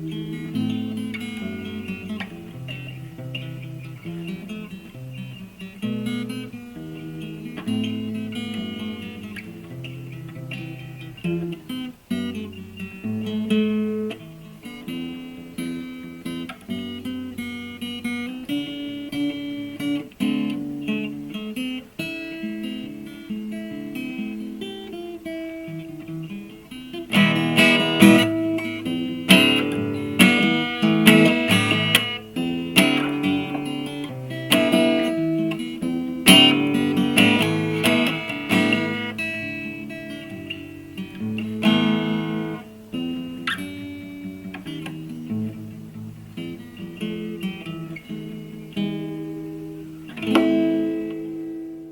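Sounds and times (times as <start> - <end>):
fingerstyle acoustic guitar: 0.0 - 51.9.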